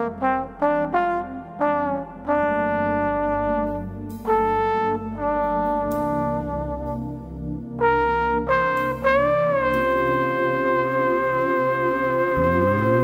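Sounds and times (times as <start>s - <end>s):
keyboard and bass backing: 0.0s - 13.0s
trombone melody: 0.0s - 13.0s.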